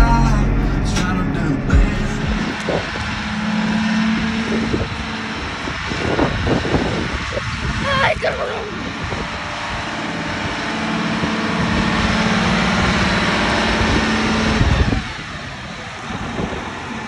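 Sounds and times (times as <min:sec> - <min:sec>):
tractor diesel engine drone: 0:00.0 - 0:17.0.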